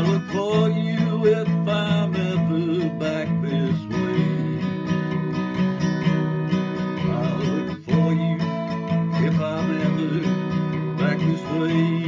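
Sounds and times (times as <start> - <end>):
man's voice: 0.0 - 4.9, 7.0 - 12.0
acoustic guitar strumming: 0.0 - 12.0.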